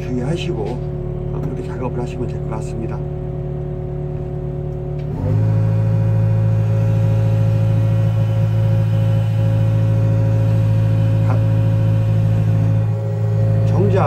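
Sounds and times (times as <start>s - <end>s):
excavator diesel engine revving: 0.0s - 14.0s.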